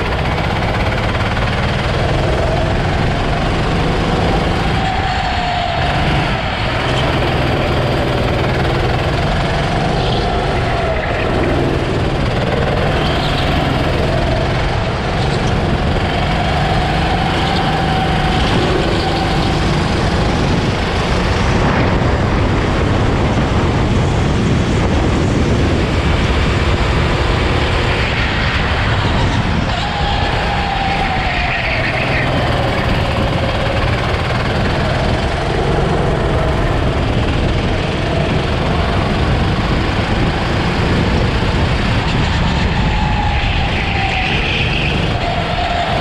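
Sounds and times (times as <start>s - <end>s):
go-kart engine revving: 0.0s - 46.0s
steady rush of noise: 0.0s - 46.0s.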